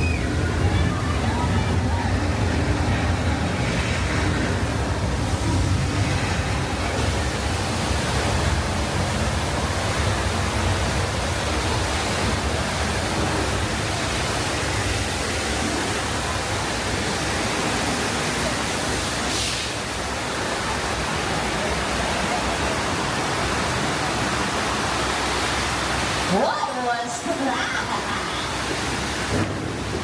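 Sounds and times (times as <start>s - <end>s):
steady rushing water noise: 0.0s - 30.0s.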